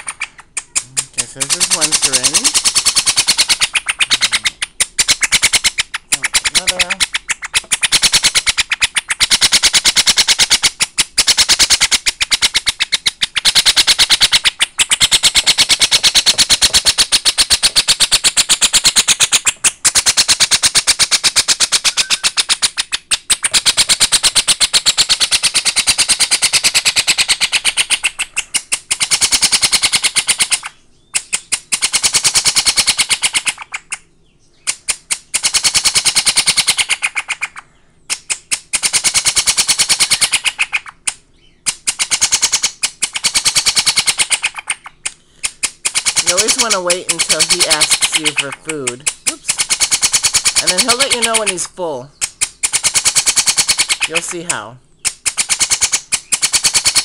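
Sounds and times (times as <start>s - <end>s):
parrot chick begging calls: 0.0s - 57.0s.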